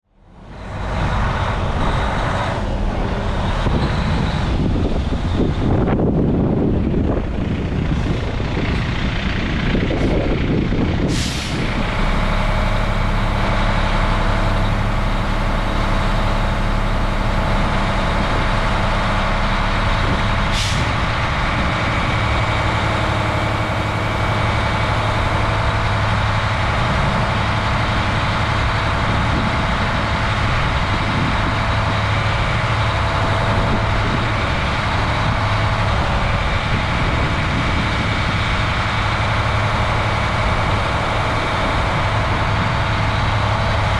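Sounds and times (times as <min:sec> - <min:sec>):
diesel truck engine idling: 0:00.0 - 0:43.9.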